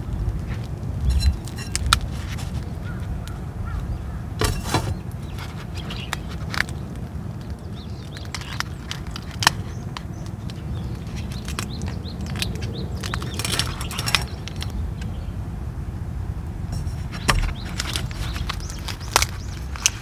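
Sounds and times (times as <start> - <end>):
wrap crinkling: 0.0 - 3.1, 4.4 - 14.7, 16.8 - 20.0
tortilla wrap rustling: 0.0 - 14.8, 16.8 - 20.0
steady low rumble: 0.0 - 20.0.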